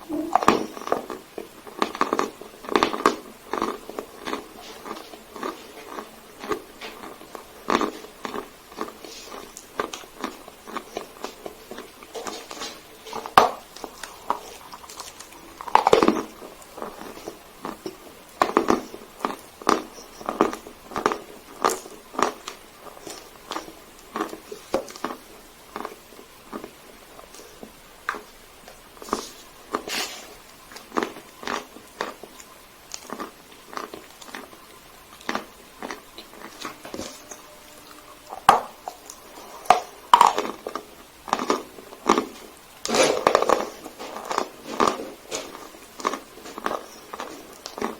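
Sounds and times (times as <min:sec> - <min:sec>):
chalk crunching while chewed: 0:00.3 - 0:47.9.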